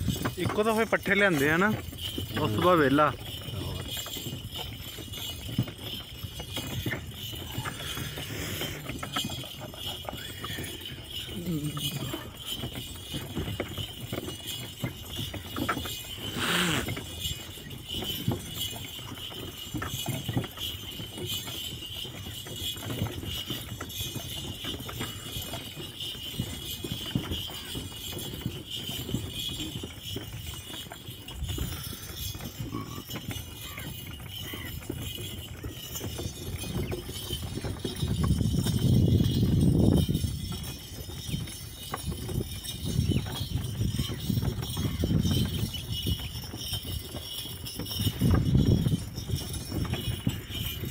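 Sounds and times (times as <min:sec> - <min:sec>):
metal chain jingling: 0:00.0 - 0:50.9
wooden cart knocking and rattling: 0:00.0 - 0:50.9.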